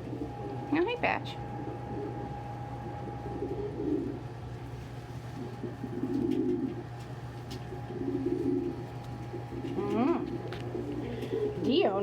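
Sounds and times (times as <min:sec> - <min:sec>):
pigeons cooing: 0:00.0 - 0:00.6, 0:01.5 - 0:04.6, 0:05.2 - 0:12.0
faint steady hum: 0:00.0 - 0:12.0.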